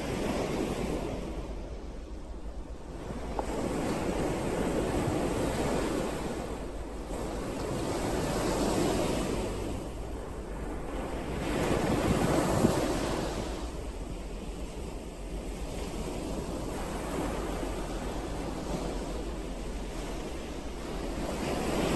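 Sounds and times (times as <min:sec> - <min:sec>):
ocean waves breaking: 0:00.0 - 0:21.9.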